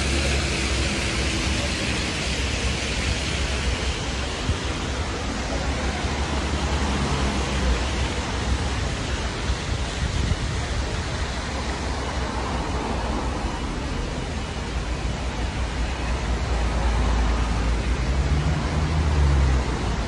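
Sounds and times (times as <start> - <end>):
city street rushing noise: 0.0 - 20.0.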